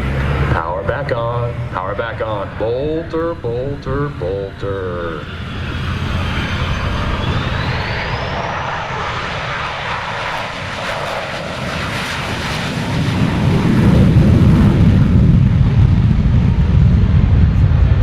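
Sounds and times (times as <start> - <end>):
faint rising whine: 0.0 - 15.1
jet engines roaring: 0.0 - 18.0.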